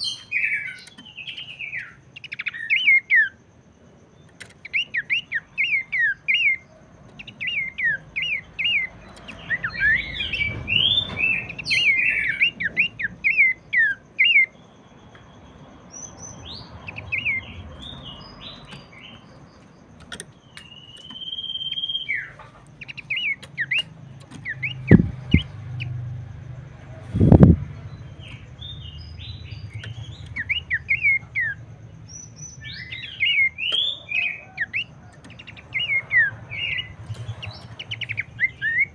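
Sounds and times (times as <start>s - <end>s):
bird chirping and whistling: 0.0s - 3.4s, 4.6s - 26.1s, 27.0s - 38.9s.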